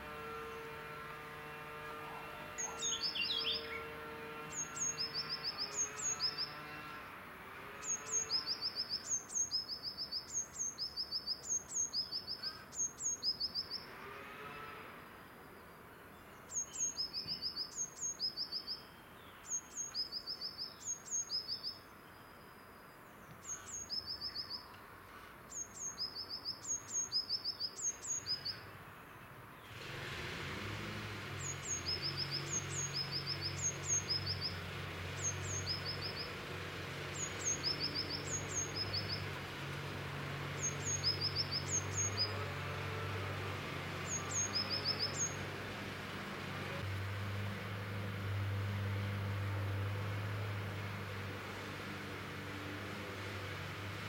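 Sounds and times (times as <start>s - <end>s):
songbird singing: 0.0s - 14.4s, 15.2s - 29.8s, 30.5s - 54.0s.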